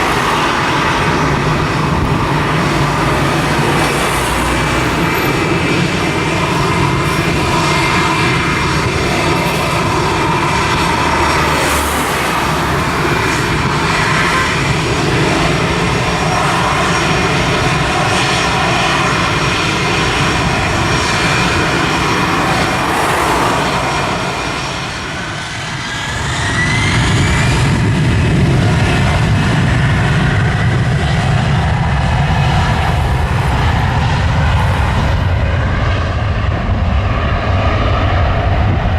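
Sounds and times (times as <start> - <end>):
jet engines roaring: 0.0 - 38.9
rising engine whine: 0.0 - 38.9.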